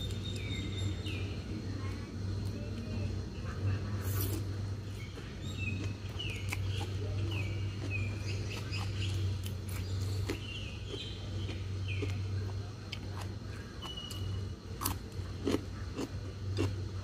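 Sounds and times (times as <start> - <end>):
small birds chirping: 0.0 - 16.8
steady low hum: 0.0 - 17.0.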